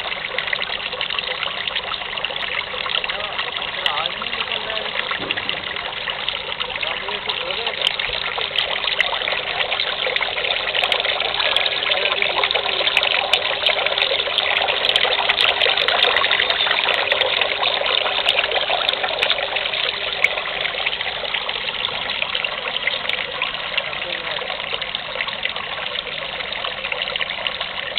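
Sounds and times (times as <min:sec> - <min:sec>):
fountain water trickling: 0:00.0 - 0:27.9.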